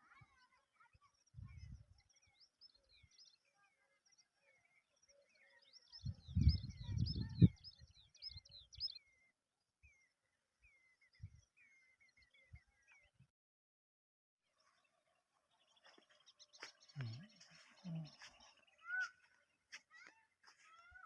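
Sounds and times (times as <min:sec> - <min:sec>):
birds chirping: 0:00.0 - 0:13.3, 0:14.5 - 0:21.0.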